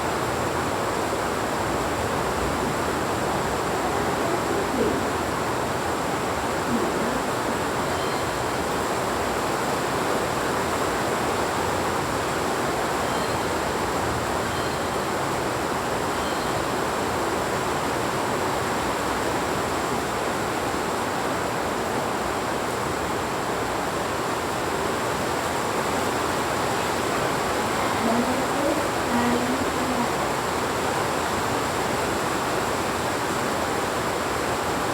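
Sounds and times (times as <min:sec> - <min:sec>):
heavy rain falling: 0:00.0 - 0:13.0, 0:16.7 - 0:34.9.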